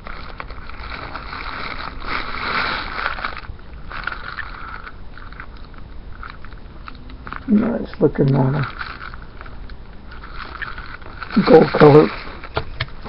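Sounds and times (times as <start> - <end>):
low steady hum: 0.0 - 13.0
toy car rustling in fingers: 0.0 - 13.0.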